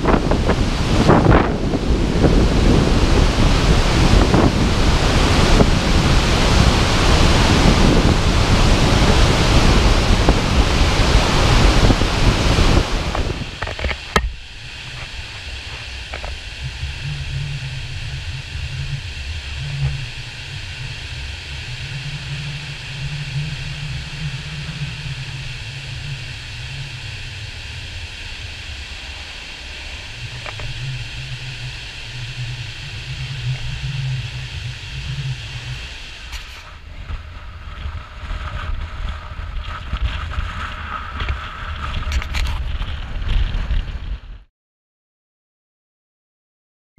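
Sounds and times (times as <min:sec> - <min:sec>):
waterfall roaring: 0:00.0 - 0:42.4
low rumble: 0:00.0 - 0:44.5.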